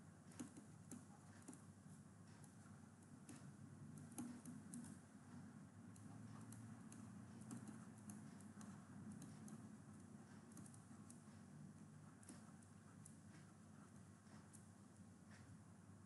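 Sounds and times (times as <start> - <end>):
low steady hum: 0.0 - 16.0
stylus tapping on tablet: 0.3 - 13.7.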